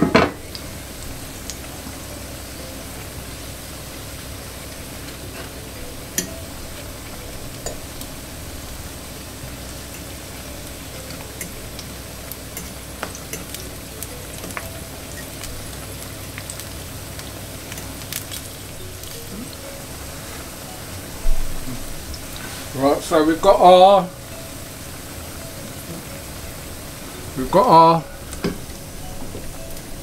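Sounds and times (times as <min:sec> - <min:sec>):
slices sizzling in hot oil: 0:00.1 - 0:30.0.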